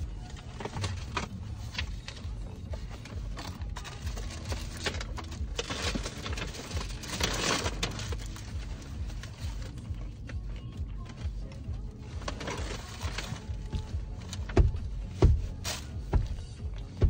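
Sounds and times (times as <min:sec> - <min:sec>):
tissue paper rustling: 0:00.0 - 0:09.9, 0:11.1 - 0:16.5.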